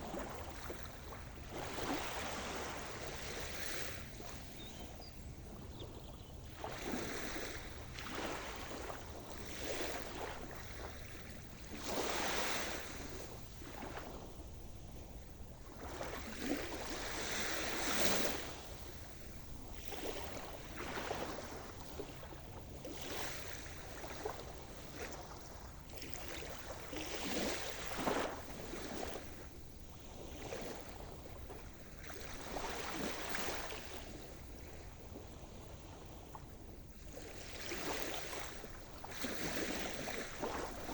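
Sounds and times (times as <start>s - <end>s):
waves breaking and washing in: 0.0s - 40.9s.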